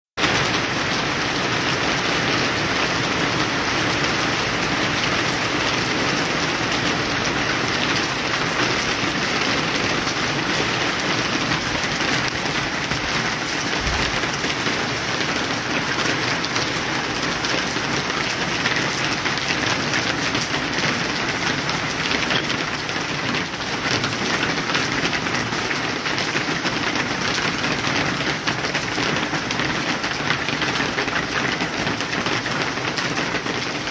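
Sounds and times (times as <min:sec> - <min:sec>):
rain on wet pavement: 0:00.2 - 0:33.9.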